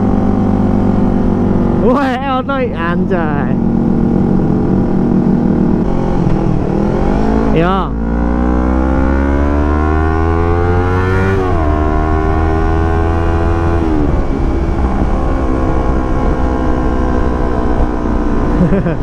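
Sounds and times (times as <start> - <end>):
motorcycle engine shifting gears: 0.0 - 2.4, 3.0 - 19.0.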